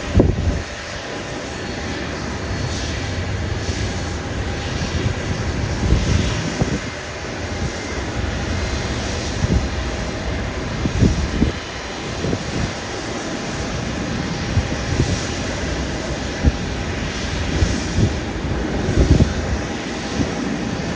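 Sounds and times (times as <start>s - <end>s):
aircraft engines running: 0.0s - 20.9s.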